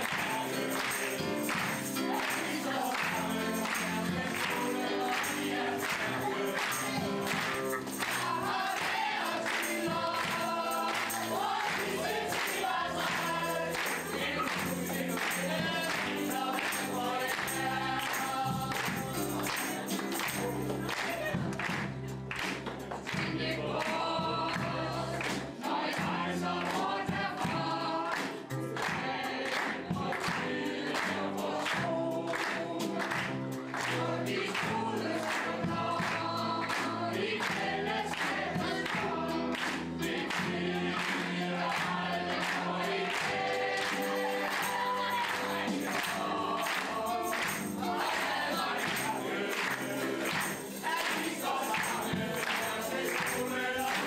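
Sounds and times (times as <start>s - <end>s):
group singing choir-style: 0.0s - 22.0s, 23.0s - 54.0s
live band with guitars: 0.0s - 54.0s.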